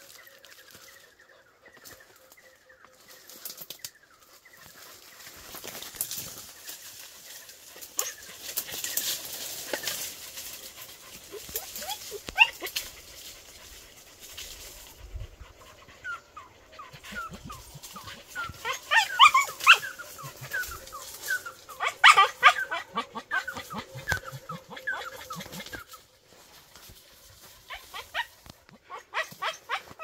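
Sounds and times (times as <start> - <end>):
dogs barking and yelping: 4.4 - 30.0.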